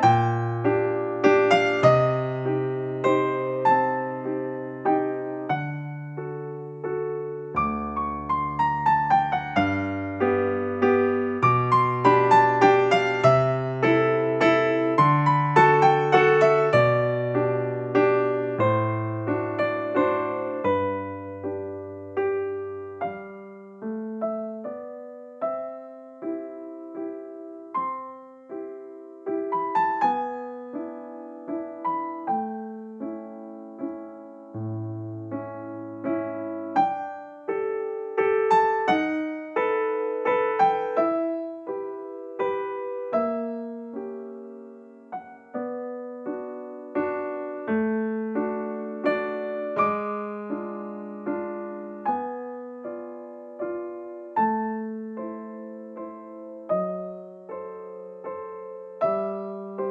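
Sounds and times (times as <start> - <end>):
gentle piano melody: 0.0 - 59.9.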